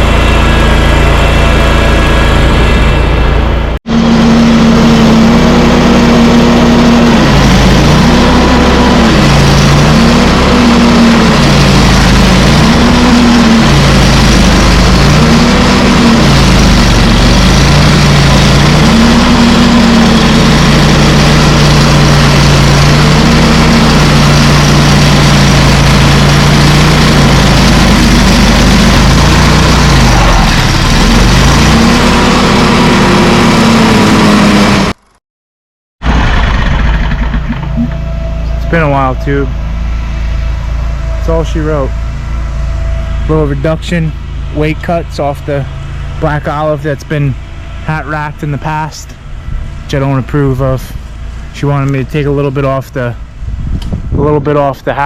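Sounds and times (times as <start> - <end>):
engine revving: 0.0 - 35.2, 36.0 - 55.0.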